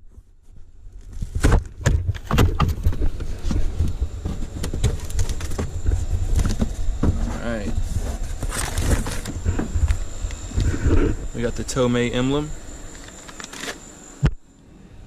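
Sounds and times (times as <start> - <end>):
steady low rumble: 2.5 - 15.0.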